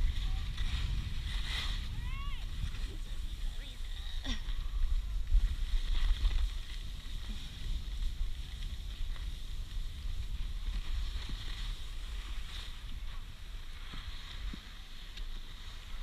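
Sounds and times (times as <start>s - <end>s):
skis sliding over snow: 0.0s - 16.0s
wind rumbling on microphone: 0.0s - 16.0s.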